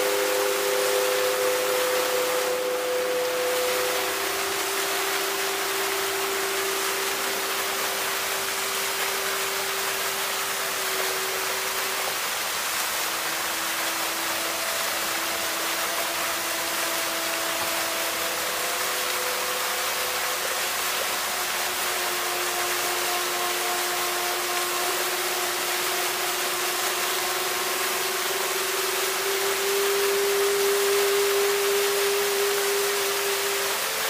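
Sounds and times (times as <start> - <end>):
fountain water splashing: 0.0 - 34.0
slow held musical tones: 0.0 - 34.0.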